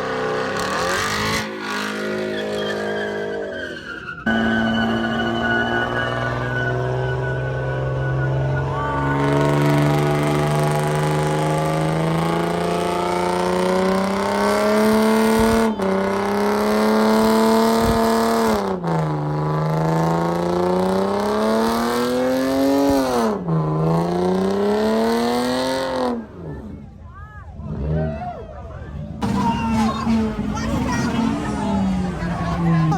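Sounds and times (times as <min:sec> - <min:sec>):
car engine revving: 0:00.0 - 0:03.4, 0:04.2 - 0:26.7, 0:29.1 - 0:32.9.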